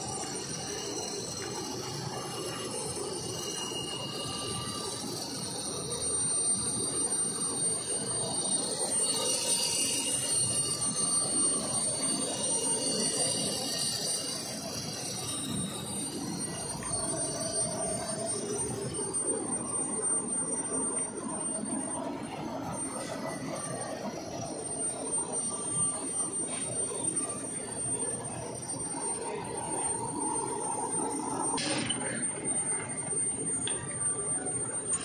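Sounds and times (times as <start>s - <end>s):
lathe rumbling: 0.0s - 33.6s
high-pitched ringing tones: 0.0s - 35.0s.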